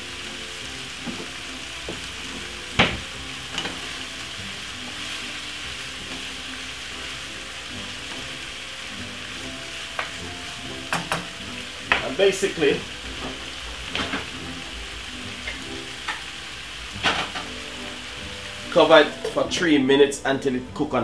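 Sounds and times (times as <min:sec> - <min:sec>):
vegetables sizzling in oil: 0:00.0 - 0:20.8.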